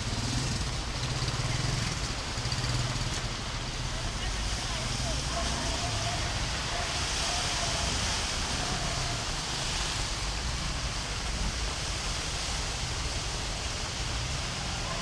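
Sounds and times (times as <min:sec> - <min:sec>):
floodwater running down street: 0:00.0 - 0:15.0
heavy rain: 0:00.0 - 0:15.0.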